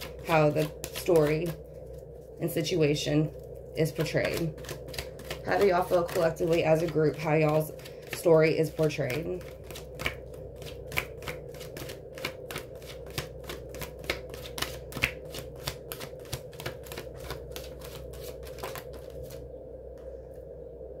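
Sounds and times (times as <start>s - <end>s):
cards being shuffled: 0.0s - 2.6s, 3.3s - 19.4s.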